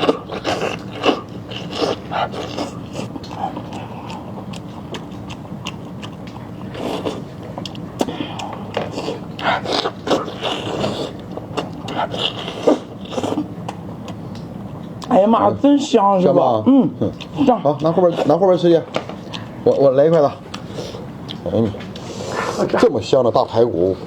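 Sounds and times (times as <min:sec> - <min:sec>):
biting and chewing food: 0:00.0 - 0:15.3, 0:17.0 - 0:23.0.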